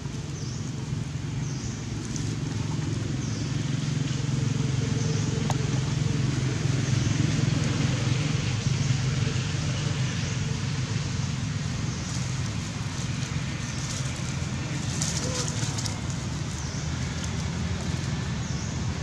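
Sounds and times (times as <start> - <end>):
engine running low rumble: 0.0 - 19.0.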